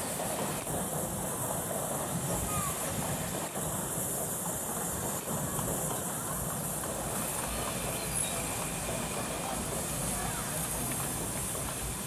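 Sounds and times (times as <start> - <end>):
steam locomotive hiss and rumble: 0.0 - 12.0.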